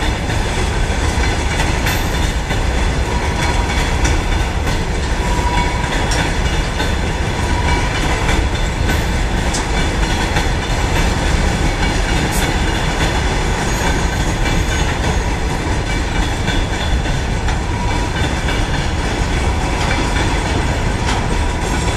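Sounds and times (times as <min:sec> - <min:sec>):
train wheels rumbling on rails: 0:00.0 - 0:21.9
wheel clacks: 0:00.0 - 0:21.9.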